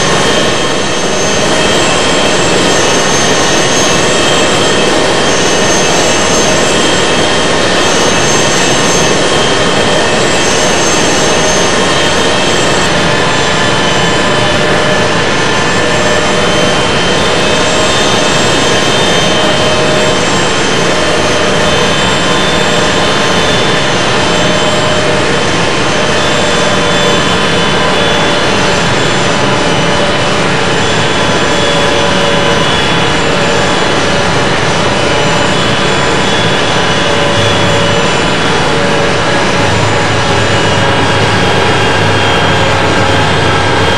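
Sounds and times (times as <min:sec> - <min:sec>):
jet engine roar in cabin: 0:00.0 - 0:43.9.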